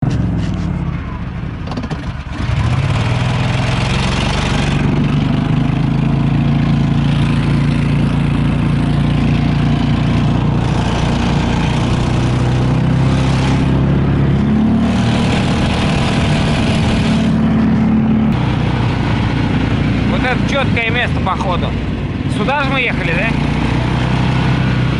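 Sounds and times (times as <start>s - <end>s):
vehicle engine running: 0.0s - 24.9s.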